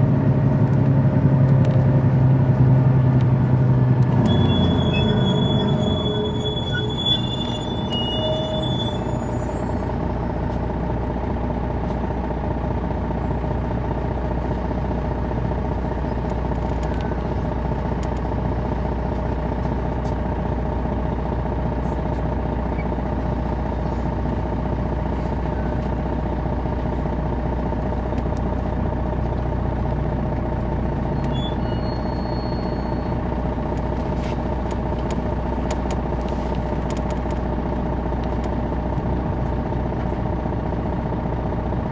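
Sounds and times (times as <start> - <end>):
bus engine droning: 0.0 - 41.9
steady engine whine: 0.0 - 41.9.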